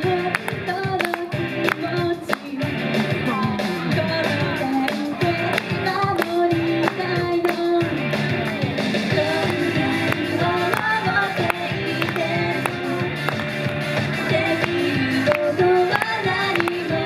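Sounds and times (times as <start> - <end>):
pop song with female vocals: 0.0 - 13.4, 14.0 - 17.0.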